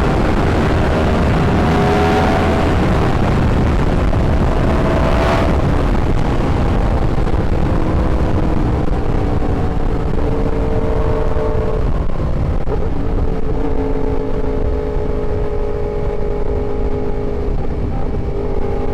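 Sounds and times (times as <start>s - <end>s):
motorcycle engine running: 0.0s - 18.9s
wind noise: 0.0s - 18.9s.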